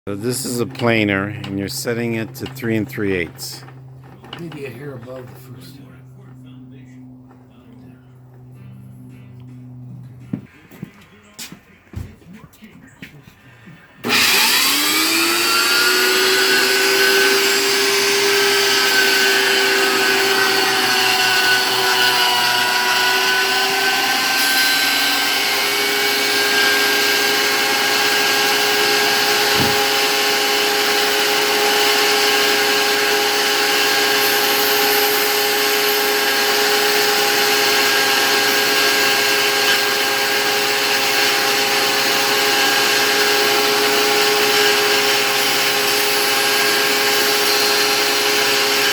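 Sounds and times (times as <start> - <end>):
thickness planer whining hum: 0.1 - 11.0, 13.6 - 48.9.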